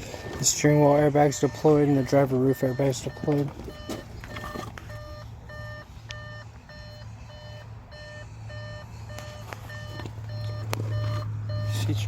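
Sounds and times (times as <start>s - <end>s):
electronic warning beep: 0.0s - 12.0s.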